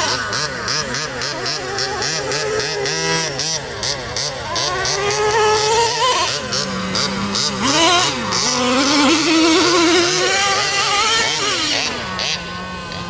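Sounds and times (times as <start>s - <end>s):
high-pitched nitro engine revving: 0.0s - 13.0s.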